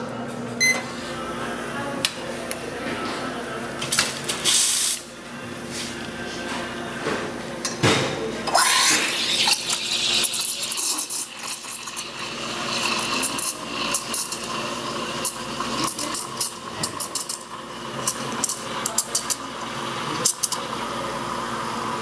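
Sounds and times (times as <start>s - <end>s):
espresso machine humming and hissing: 0.0s - 7.6s, 8.3s - 22.0s.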